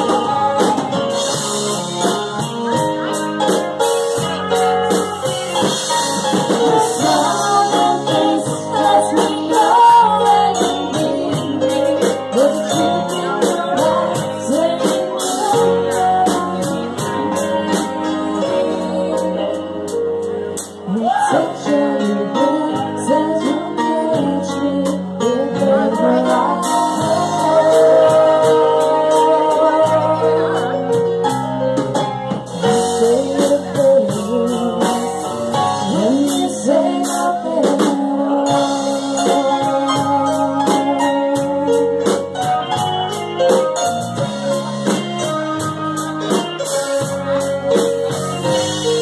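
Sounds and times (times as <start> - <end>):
woman singing: 0.0 - 2.8, 5.3 - 31.3, 32.5 - 43.0
backing music with drum beat: 0.0 - 49.0.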